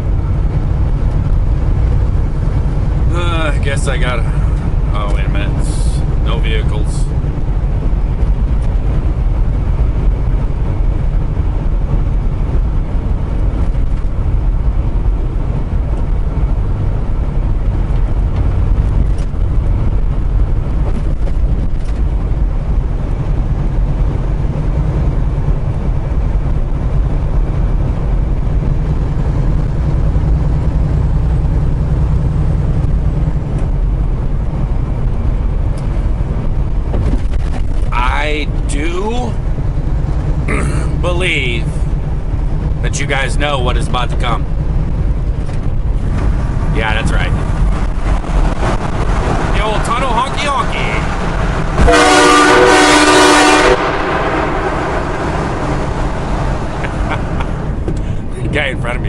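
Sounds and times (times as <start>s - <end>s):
road noise: 0.0s - 59.0s
truck engine drone: 0.0s - 59.0s.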